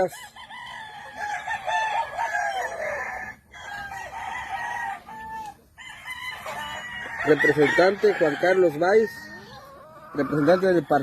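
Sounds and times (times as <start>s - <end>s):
hens clucking: 0.0s - 11.0s
roosters crowing: 0.0s - 11.0s.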